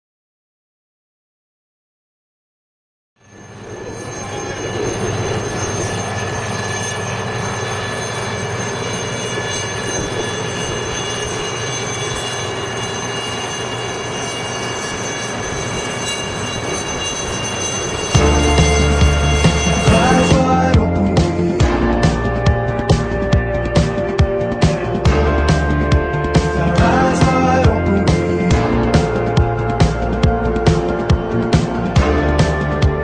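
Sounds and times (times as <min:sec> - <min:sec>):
aircraft engine rushing: 0:03.2 - 0:33.0
high whine tones: 0:03.2 - 0:33.0.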